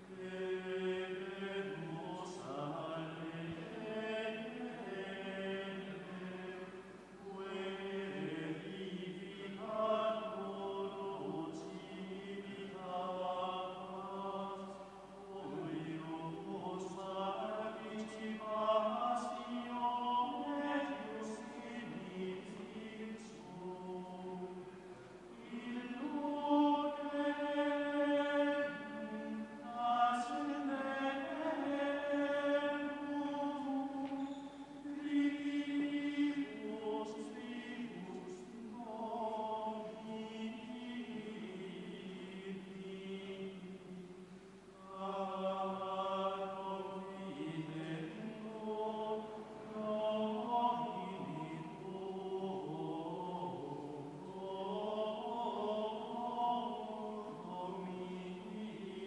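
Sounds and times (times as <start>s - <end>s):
voices singing a slow chant: 0.0s - 59.0s.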